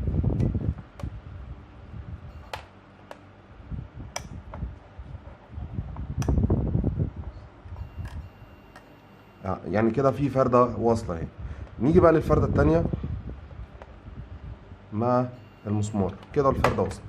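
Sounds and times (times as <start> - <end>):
low rumbling handling noise: 0.0 - 9.0, 9.8 - 15.0, 16.0 - 17.0.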